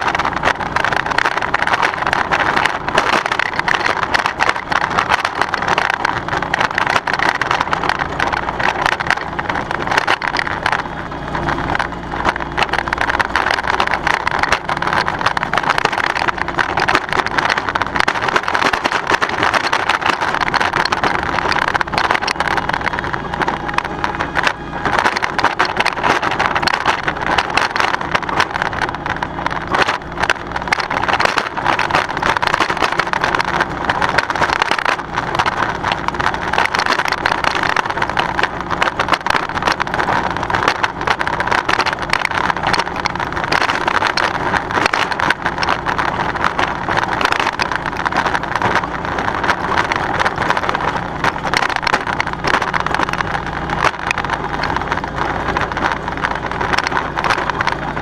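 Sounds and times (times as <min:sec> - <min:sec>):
aerator tines rattling: 0:00.0 - 0:58.0
lawn tractor engine running: 0:00.0 - 0:58.0.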